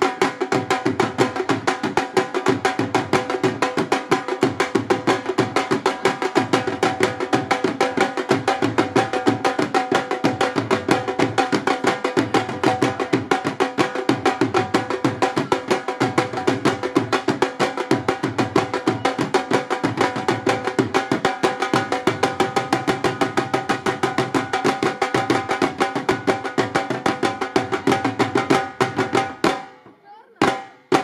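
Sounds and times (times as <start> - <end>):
drums played with sticks: 0.0 - 31.0.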